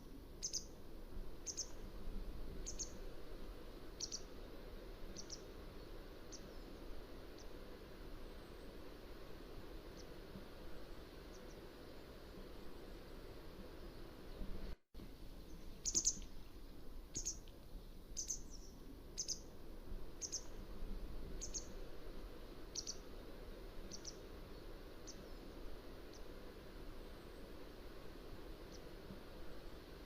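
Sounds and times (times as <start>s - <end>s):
low background hiss: 0.0s - 30.0s.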